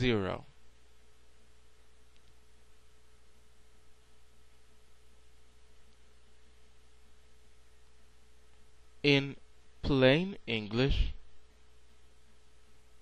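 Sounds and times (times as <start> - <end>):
electrical hum and hiss: 0.0 - 13.0.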